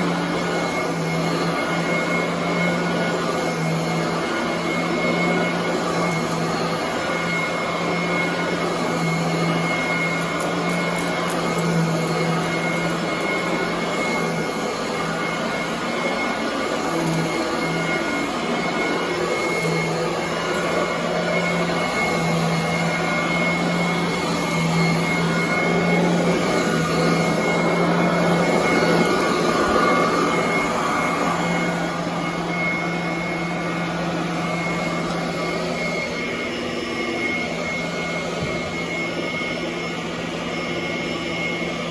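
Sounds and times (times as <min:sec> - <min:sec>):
upright vacuum cleaner on carpet: 0:00.0 - 0:41.9.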